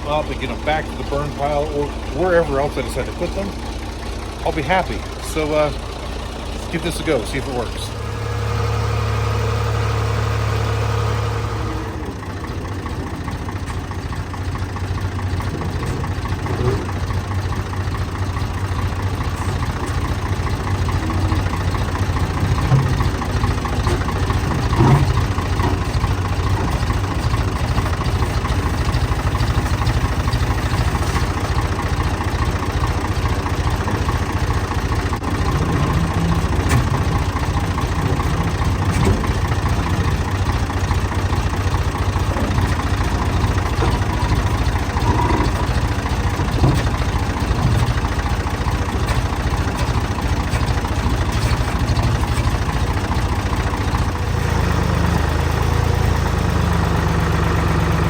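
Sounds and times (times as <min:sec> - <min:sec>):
clunks: 0:00.0 - 0:58.0
tractor engine chugging: 0:00.0 - 0:58.0.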